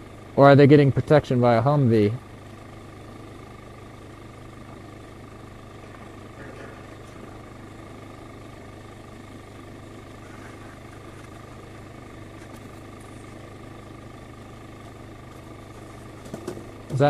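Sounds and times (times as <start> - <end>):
faint steady whine: 0.0 - 17.0
vehicle engine humming: 0.0 - 17.0.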